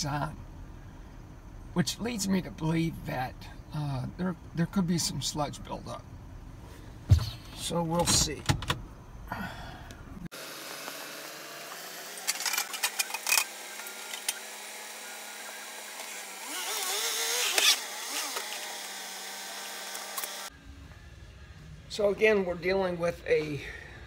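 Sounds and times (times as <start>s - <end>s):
wavering engine noise: 0.0s - 22.6s.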